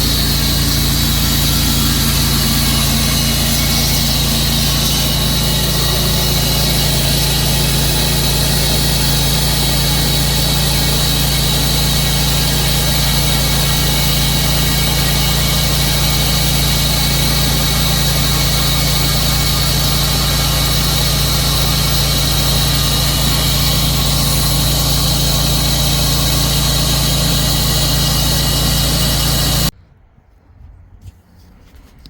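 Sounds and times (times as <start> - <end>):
saw cutting log: 0.0 - 29.7
sawmill engine running: 0.0 - 29.7.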